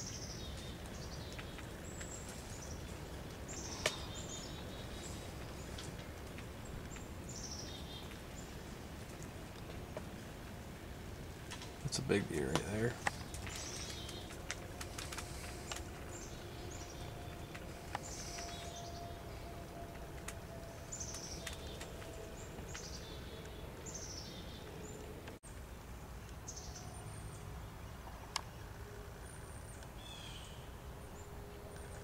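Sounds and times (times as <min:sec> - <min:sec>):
faint steady hum: 0:00.0 - 0:32.0
songbirds chirping: 0:00.0 - 0:32.0.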